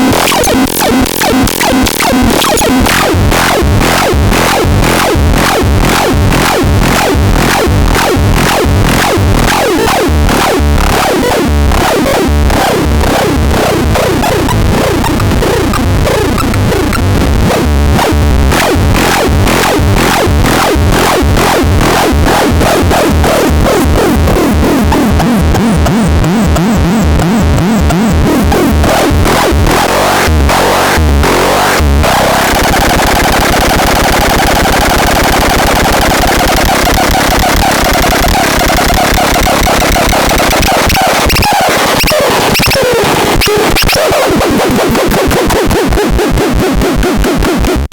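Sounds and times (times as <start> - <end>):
pulsing synthesizer sound: 0.0 - 47.8.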